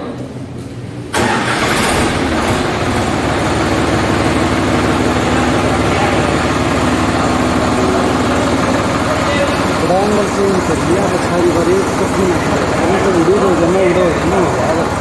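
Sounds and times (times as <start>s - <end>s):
tractor diesel engine starting: 1.1s - 15.0s.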